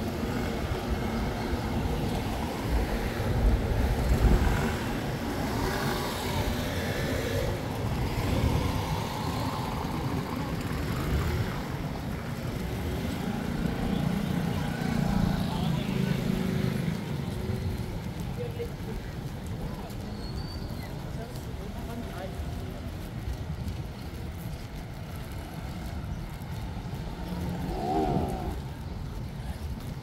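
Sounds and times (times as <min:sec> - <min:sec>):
cars passing by: 0:00.0 - 0:30.0.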